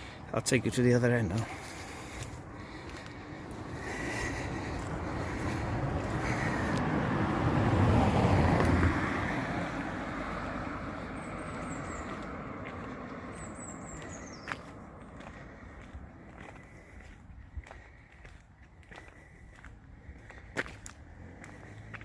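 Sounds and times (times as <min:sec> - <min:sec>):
car passing by: 0:01.3 - 0:17.7, 0:19.1 - 0:22.0.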